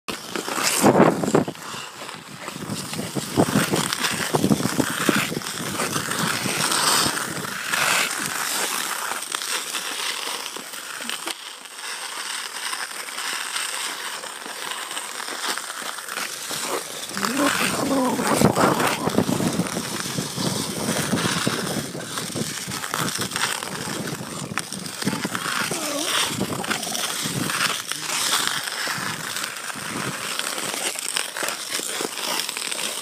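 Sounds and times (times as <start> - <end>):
ice skate blades scraping on ice: 0.1 - 33.0
skate knocks on ice: 2.4 - 33.0.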